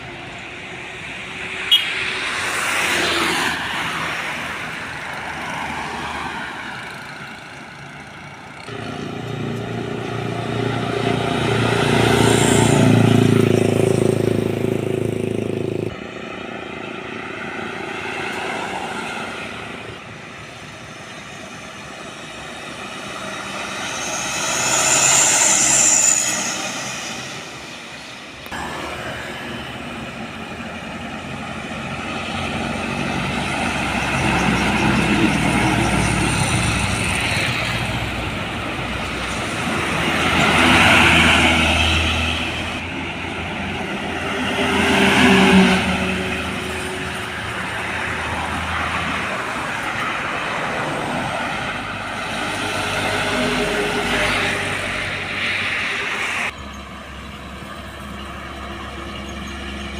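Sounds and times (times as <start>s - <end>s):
diesel trucks driving past: 0.0s - 59.9s.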